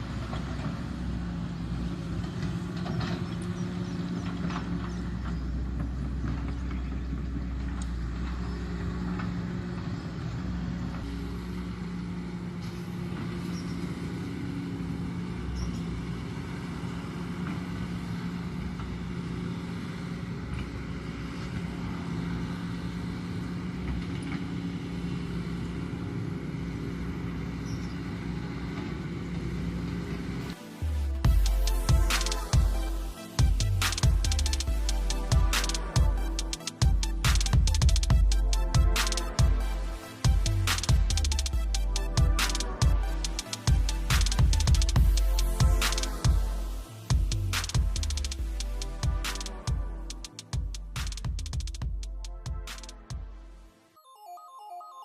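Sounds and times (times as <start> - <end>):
excavator diesel engine running: 0.0 - 53.7.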